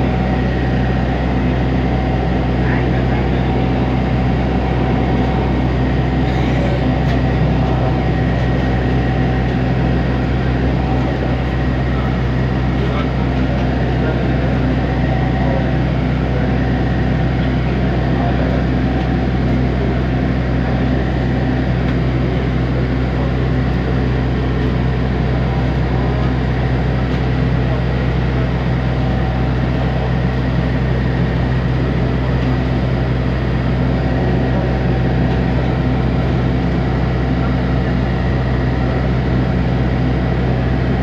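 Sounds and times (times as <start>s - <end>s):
vehicle engine drone: 0.0s - 41.0s.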